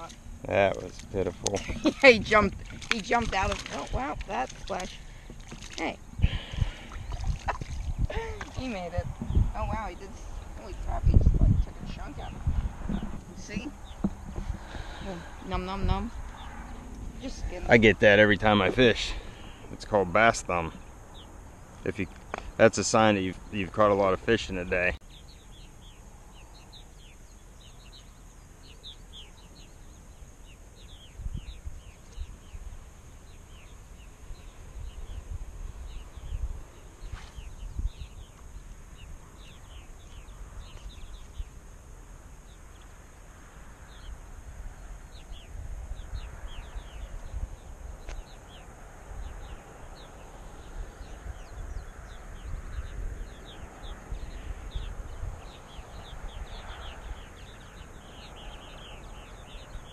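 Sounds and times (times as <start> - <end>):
small birds chirping: 0.0 - 59.9
wind gusting against microphone: 0.0 - 59.9.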